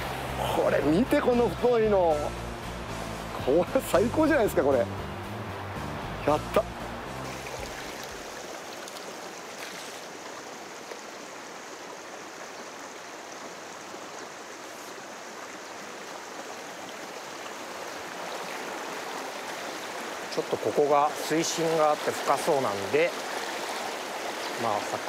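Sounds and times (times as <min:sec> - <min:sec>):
river water rushing over stones: 0:00.0 - 0:25.0.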